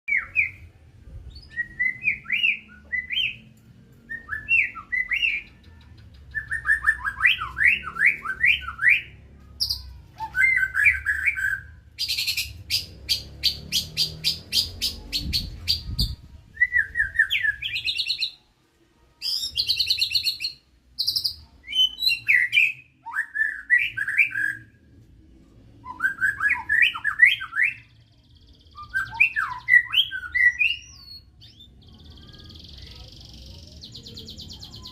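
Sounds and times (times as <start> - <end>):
bird singing whistled notes: 1.3 - 18.4, 19.2 - 24.7, 25.8 - 33.0.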